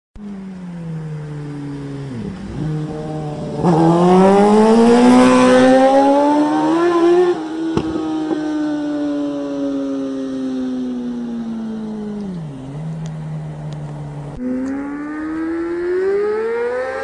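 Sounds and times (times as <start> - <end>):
motorcycle engine accelerating: 0.2 - 17.0.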